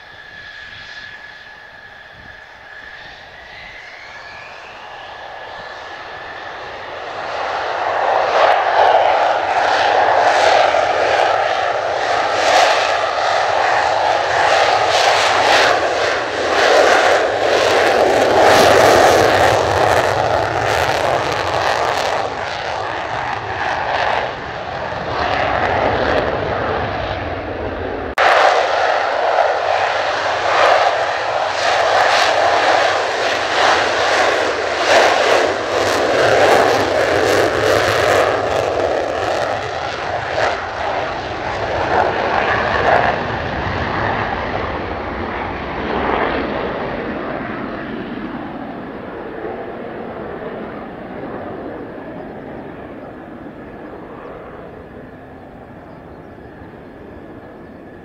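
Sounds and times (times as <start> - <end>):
jet engine afterburner roar: 0.0 - 58.0.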